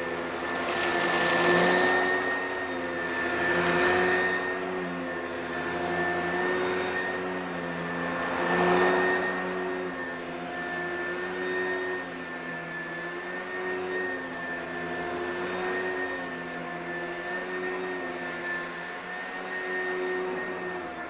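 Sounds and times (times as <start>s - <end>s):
upright vacuum cleaner running: 0.0s - 21.0s.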